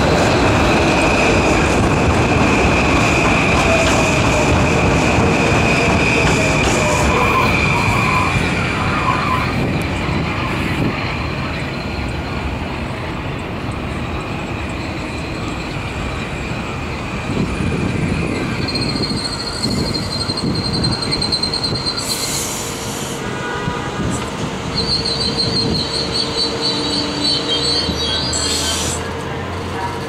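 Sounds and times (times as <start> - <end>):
rumble of wheels on rails: 0.0 - 30.0
train wheels squealing: 3.0 - 13.1, 14.0 - 23.2, 24.6 - 30.0.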